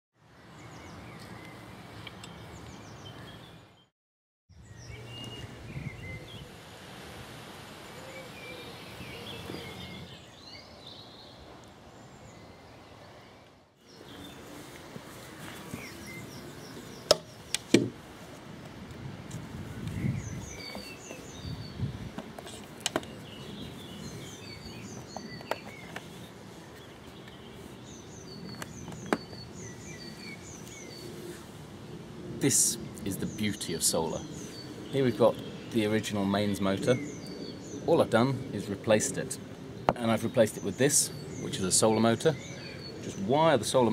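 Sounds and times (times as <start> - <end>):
small birds chirping: 0.4 - 3.9, 4.5 - 6.5, 8.0 - 17.9, 19.3 - 43.9.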